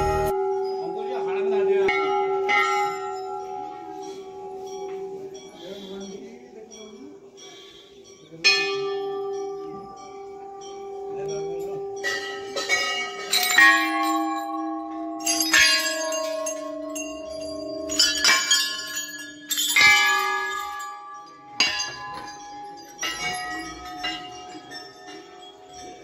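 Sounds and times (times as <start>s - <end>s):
temple bells ringing: 0.0s - 26.0s.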